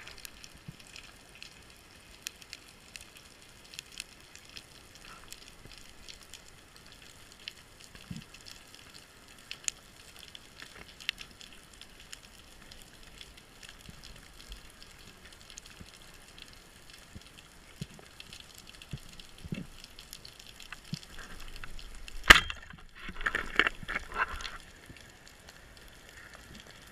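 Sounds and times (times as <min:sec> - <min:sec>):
underwater crackle of small clicks: 0:00.0 - 0:26.9.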